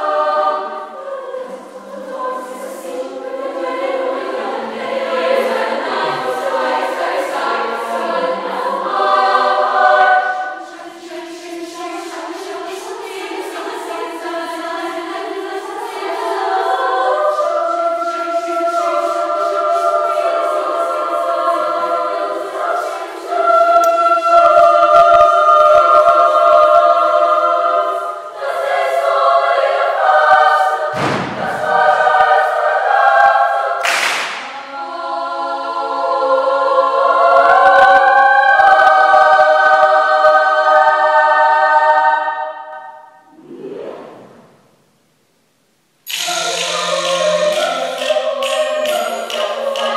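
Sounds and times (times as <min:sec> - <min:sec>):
choir singing a cappella: 0:00.0 - 0:44.8, 0:46.1 - 0:49.9.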